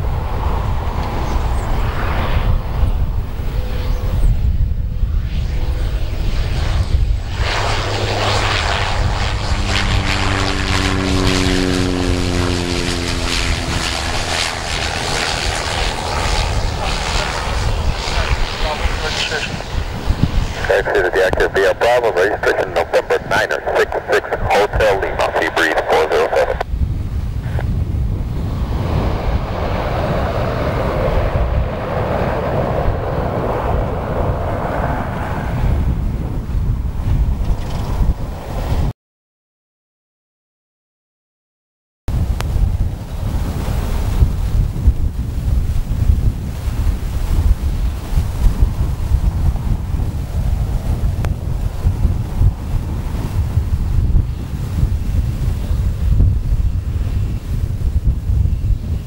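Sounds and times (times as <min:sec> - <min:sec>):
turboprop engine and propeller: 0:00.0 - 0:38.9, 0:42.1 - 0:59.0
wind rumbling on microphone: 0:00.0 - 0:38.9, 0:42.1 - 0:59.0.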